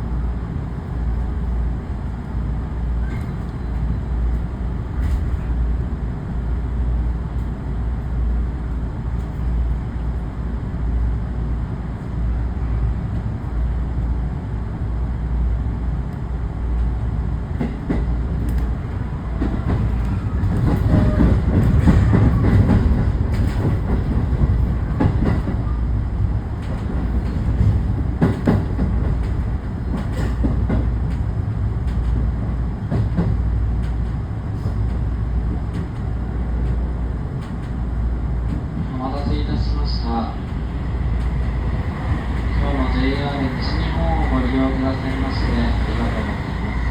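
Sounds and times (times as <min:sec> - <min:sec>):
train rumble: 0:00.0 - 0:46.9.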